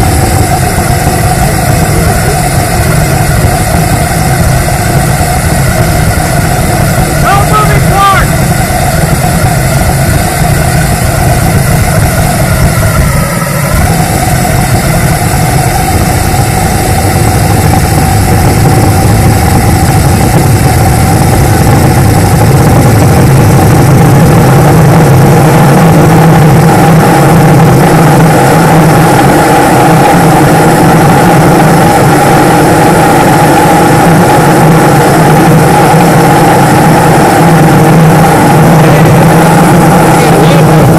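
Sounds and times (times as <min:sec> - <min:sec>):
ramjet engine roaring with whistle: 0:00.0 - 0:40.9.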